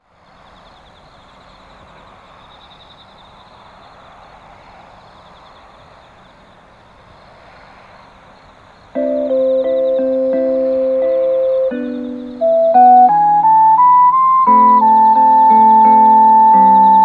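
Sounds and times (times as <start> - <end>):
faint distant noise: 0.0 - 17.0
insects chirping: 0.1 - 17.0.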